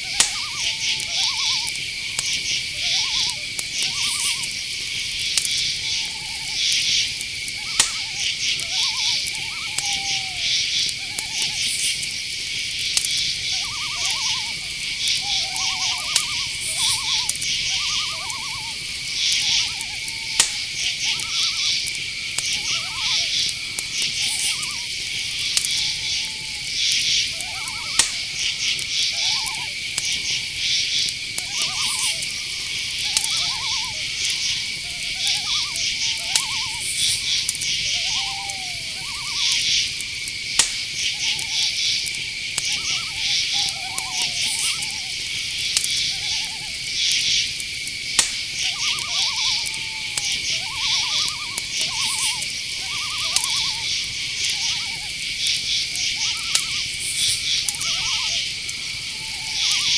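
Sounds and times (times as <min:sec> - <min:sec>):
crickets trilling: 0:00.0 - 0:59.9
high insect chirping: 0:00.0 - 0:59.9
short pulsed calls: 0:00.0 - 0:59.9.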